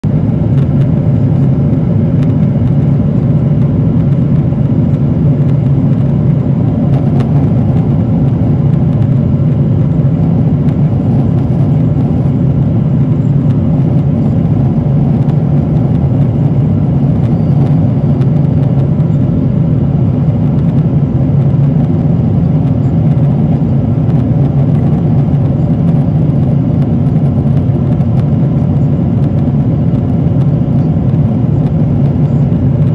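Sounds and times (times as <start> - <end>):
airplane cabin rumble: 0.0 - 32.9.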